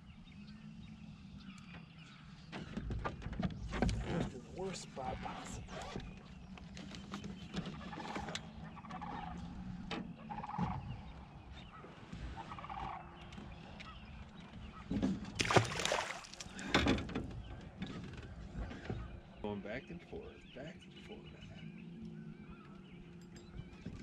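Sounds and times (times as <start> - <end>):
distant bird calls: 0.0 - 24.0.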